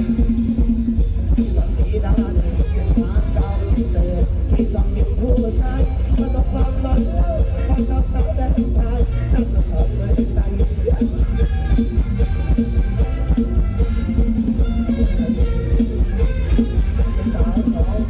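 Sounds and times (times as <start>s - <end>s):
band music with heavy bass: 0.0s - 18.0s.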